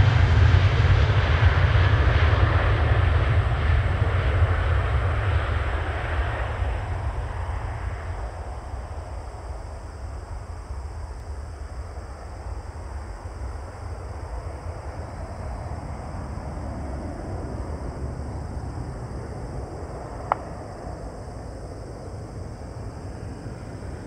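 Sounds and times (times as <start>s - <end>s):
distant jet engine rumble: 0.0s - 24.0s.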